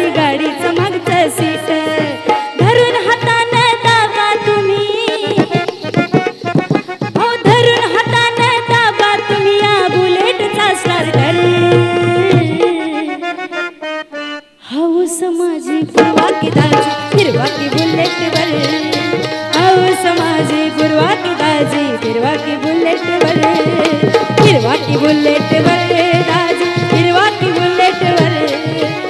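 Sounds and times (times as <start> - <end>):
hand drum driving rhythm: 0.0 - 13.0, 15.8 - 29.0.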